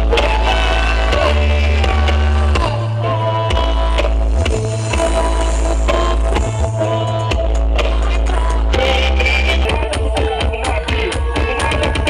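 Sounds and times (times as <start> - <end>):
loud bass-heavy electronic music: 0.0 - 12.0.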